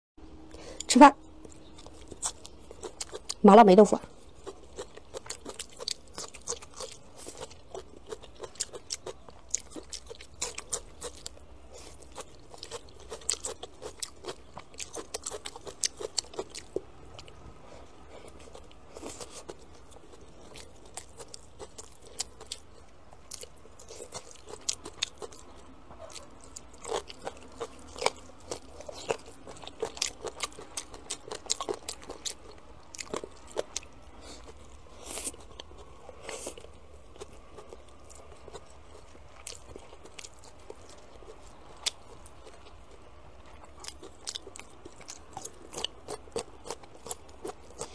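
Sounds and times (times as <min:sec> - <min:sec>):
person chewing crunchy food: 0:00.5 - 0:03.4, 0:04.1 - 0:47.9.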